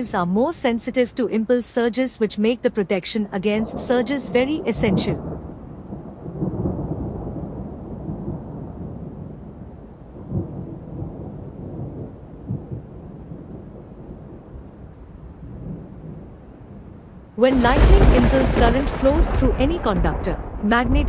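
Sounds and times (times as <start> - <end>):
thunder rumbling: 3.5 - 21.0.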